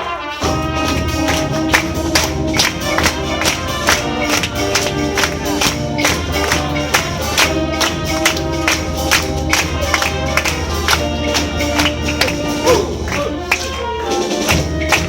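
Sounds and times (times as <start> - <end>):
brass and woodwind lines: 0.0 - 15.0
percussion beat: 0.0 - 15.0.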